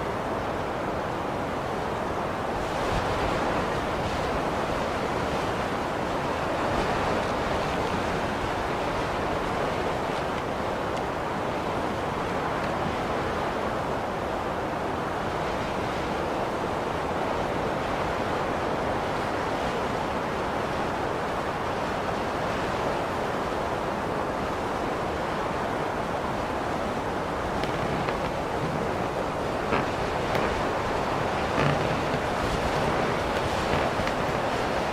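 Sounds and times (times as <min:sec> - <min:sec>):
blizzard wind blowing: 0:00.0 - 0:34.9.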